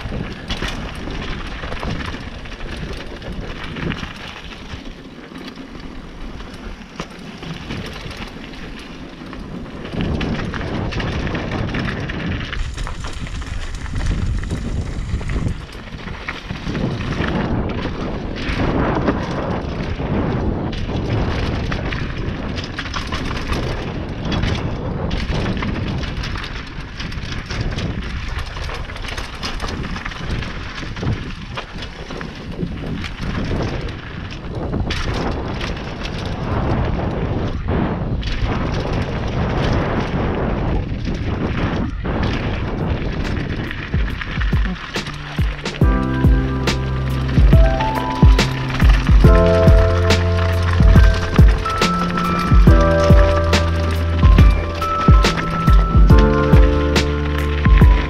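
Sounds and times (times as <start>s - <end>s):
bike rattling over bumps: 0.0s - 58.0s
tyres rolling over dirt: 0.0s - 58.0s
wind buffeting microphone: 0.0s - 58.0s.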